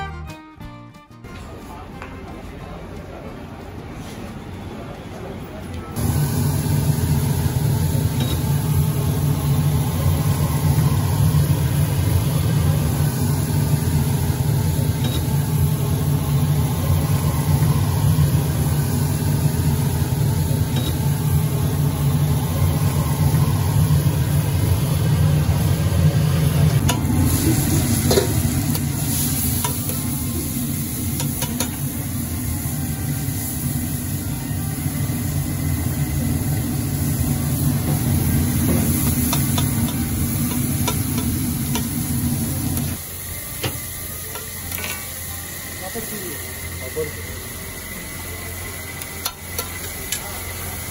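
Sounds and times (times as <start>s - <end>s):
food sizzling on griddle: 6.0s - 24.6s, 26.9s - 50.9s.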